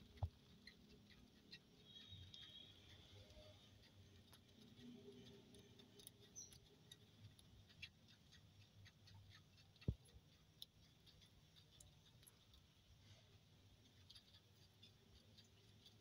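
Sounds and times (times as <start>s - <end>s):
faint ticks and clicks: 0.0s - 16.0s.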